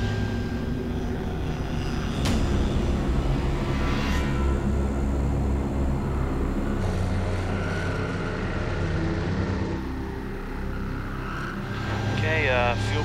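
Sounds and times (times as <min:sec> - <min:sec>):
turboprop engines droning in cabin: 0:00.0 - 0:13.0.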